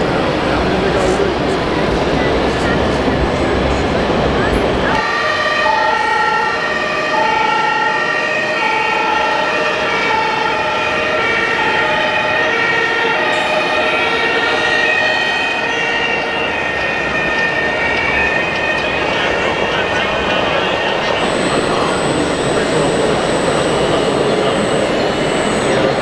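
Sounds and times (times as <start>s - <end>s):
hall background noise: 0.0s - 26.0s
two-tone siren: 4.9s - 26.0s.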